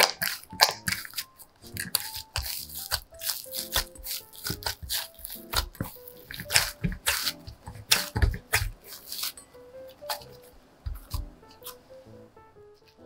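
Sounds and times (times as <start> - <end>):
dough squishing and slapping: 0.0 - 11.9
soft background music: 0.0 - 13.0.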